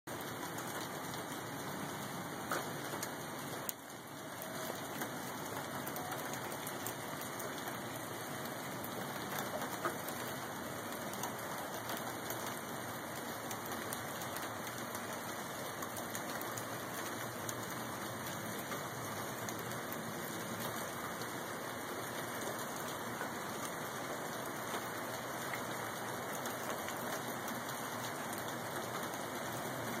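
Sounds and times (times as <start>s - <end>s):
wet snow falling on leaves: 0.2s - 30.0s.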